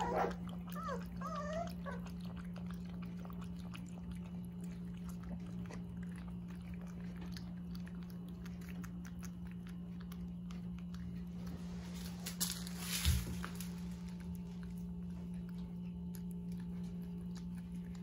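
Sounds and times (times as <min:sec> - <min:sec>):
puppies lapping water: 0:00.0 - 0:12.3, 0:13.3 - 0:18.0
steady low hum: 0:00.0 - 0:18.0.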